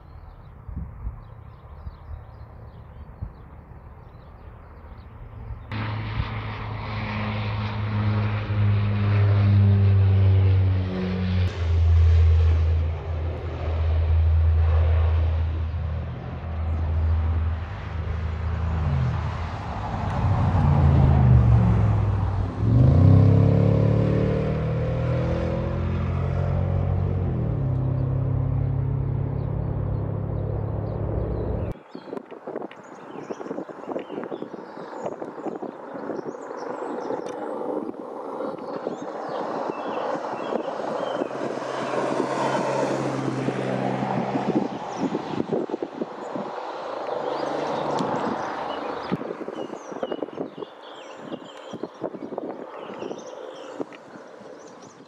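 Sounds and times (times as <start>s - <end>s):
turboprop propeller drone: 0.0s - 24.0s, 33.3s - 55.0s.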